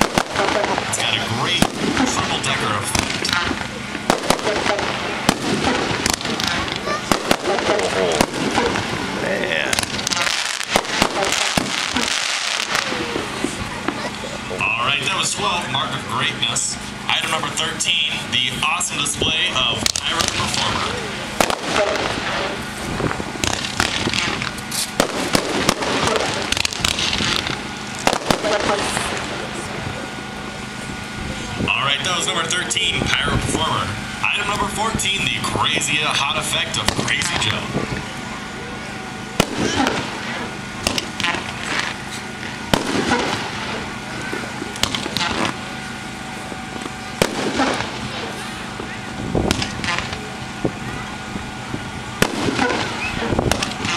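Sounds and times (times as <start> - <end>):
firework hiss and crackle: 0.0 - 33.0, 34.0 - 53.9
crowd chatter: 0.0 - 53.9
firework bangs: 0.0 - 53.9.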